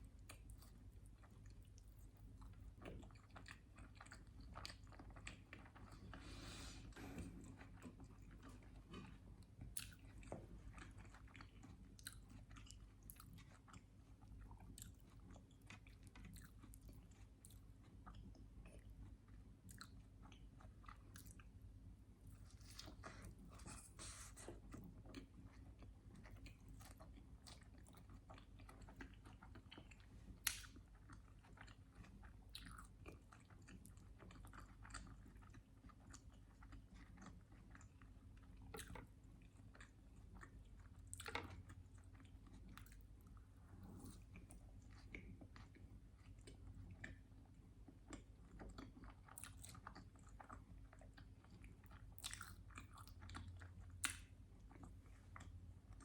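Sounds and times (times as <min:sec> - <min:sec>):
chewing with mouth clicks: 0:00.0 - 0:56.0.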